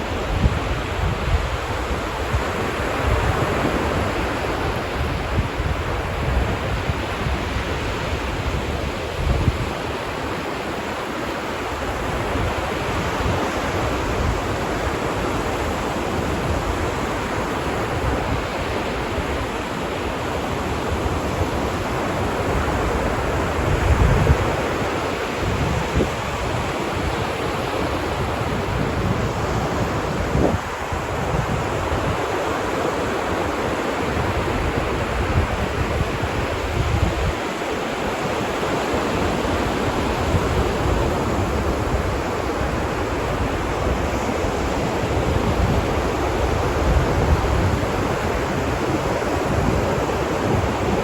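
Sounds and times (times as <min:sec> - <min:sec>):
ocean waves washing onto beach: 0:00.0 - 0:51.0
wind buffeting microphone: 0:00.0 - 0:51.0.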